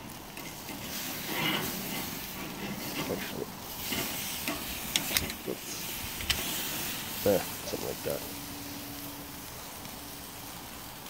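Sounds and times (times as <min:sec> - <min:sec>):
steak sizzling on charcoal grill: 0:00.0 - 0:11.0.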